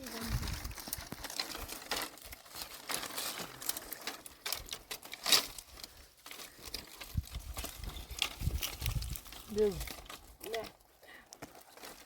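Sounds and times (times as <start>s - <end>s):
brush and leaves crunching: 0.0s - 12.0s.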